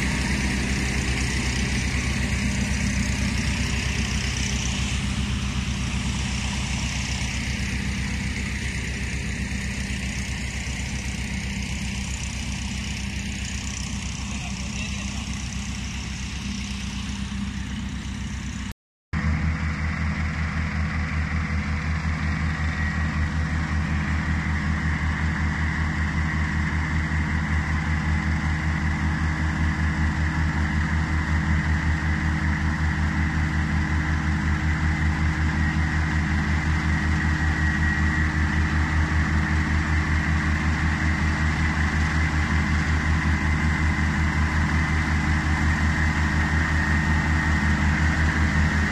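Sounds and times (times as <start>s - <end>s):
harvester machine pulsing: 0.0s - 48.9s.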